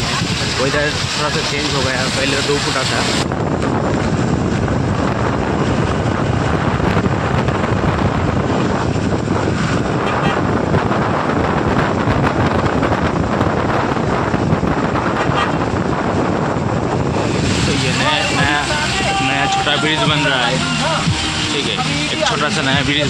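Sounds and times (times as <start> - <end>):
road and engine noise: 0.0 - 23.0
wind on microphone: 0.0 - 23.0.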